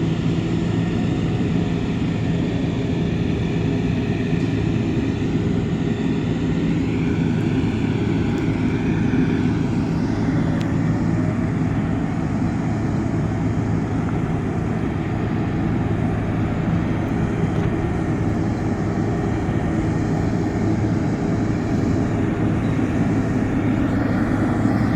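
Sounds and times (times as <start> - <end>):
diesel engine drone: 0.0 - 24.9.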